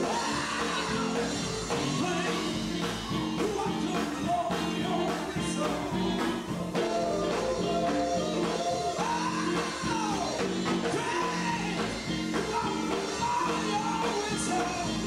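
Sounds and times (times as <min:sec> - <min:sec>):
drums playing steady beat: 0:00.0 - 0:15.0
electric guitar: 0:00.0 - 0:15.0
person singing into microphone: 0:00.0 - 0:15.0.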